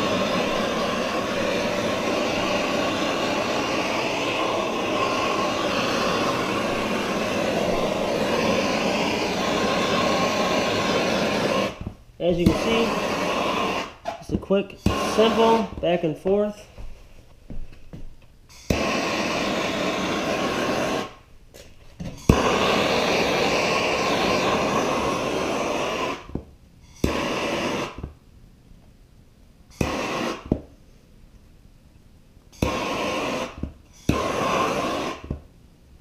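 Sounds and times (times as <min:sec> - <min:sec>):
gas torch hissing: 0:00.0 - 0:16.2, 0:18.5 - 0:28.2, 0:29.7 - 0:30.8, 0:32.6 - 0:35.5.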